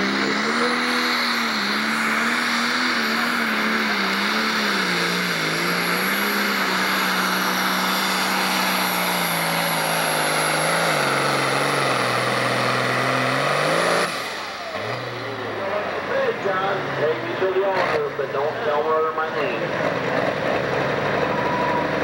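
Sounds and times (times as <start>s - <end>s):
tractor diesel engine at full power: 0.0s - 22.0s.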